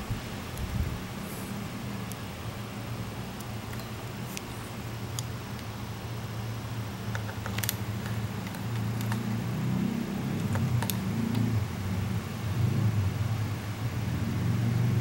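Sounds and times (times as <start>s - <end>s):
transformer mains hum: 0.0s - 15.0s.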